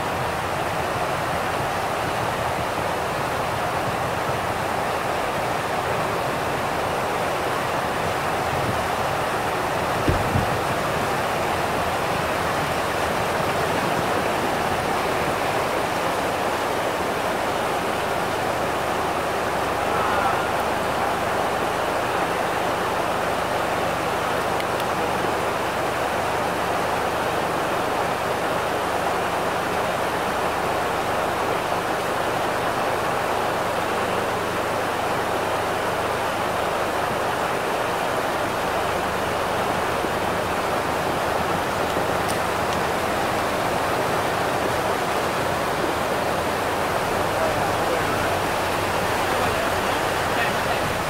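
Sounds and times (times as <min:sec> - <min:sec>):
floodwater rushing: 0:00.0 - 0:51.0.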